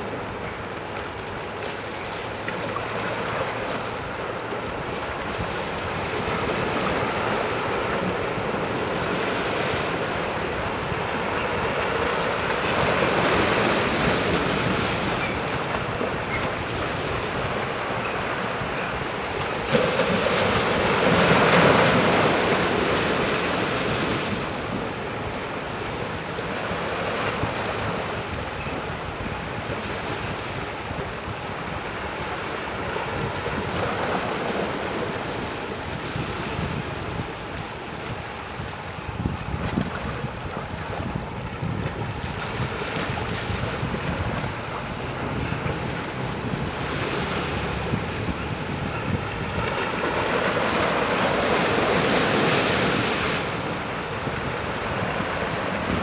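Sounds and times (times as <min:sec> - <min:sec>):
rushing water: 0:00.0 - 0:56.0
wind noise on microphone: 0:02.6 - 0:56.0.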